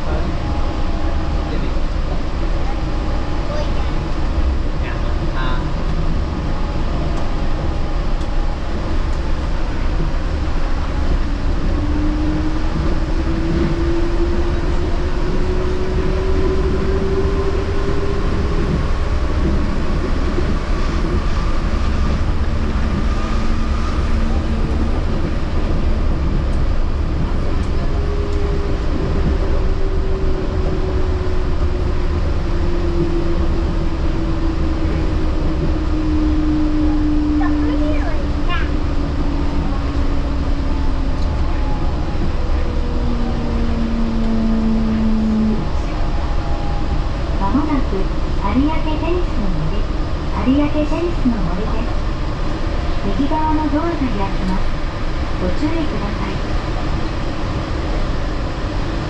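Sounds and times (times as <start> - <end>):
train tyres rumbling: 0.0 - 59.0.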